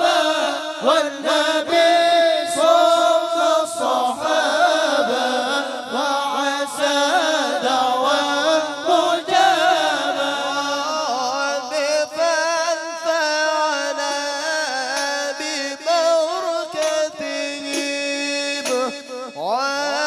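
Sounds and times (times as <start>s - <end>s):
men chanting a devotional song: 0.0s - 20.0s.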